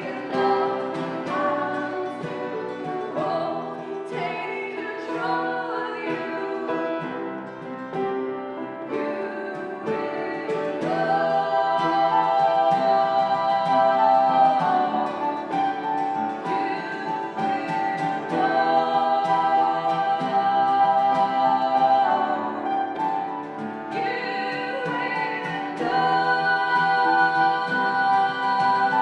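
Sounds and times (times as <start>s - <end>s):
voices singing long notes: 0.0s - 7.1s, 9.0s - 23.3s, 23.9s - 29.0s
strummed acoustic guitar: 0.0s - 29.0s.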